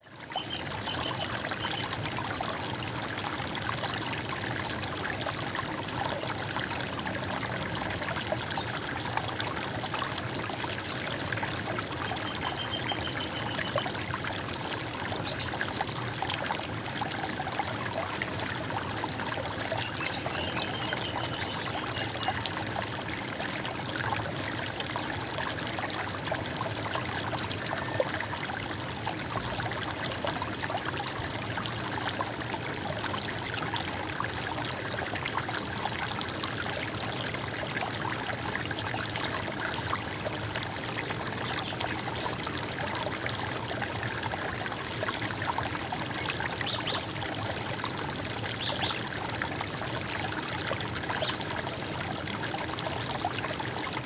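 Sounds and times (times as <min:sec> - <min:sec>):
water trickling and gurgling: 0:00.0 - 0:54.0.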